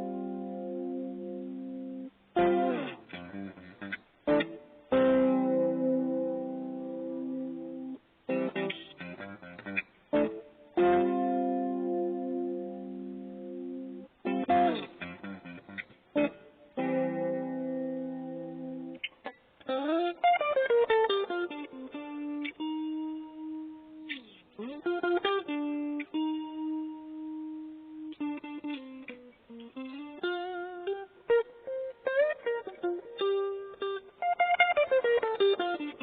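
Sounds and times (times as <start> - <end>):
solo guitar: 0.0 - 36.0.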